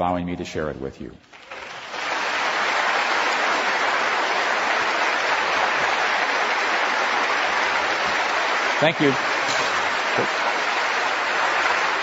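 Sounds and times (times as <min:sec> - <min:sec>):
audience applauding: 0:01.3 - 0:12.0.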